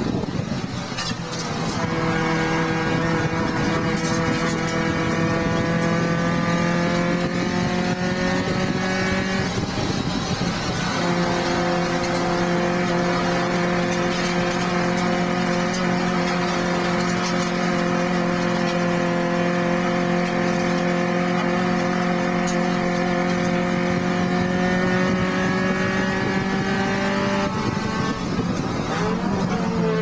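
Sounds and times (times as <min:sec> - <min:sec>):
race car engine at high revs: 0:00.0 - 0:30.0.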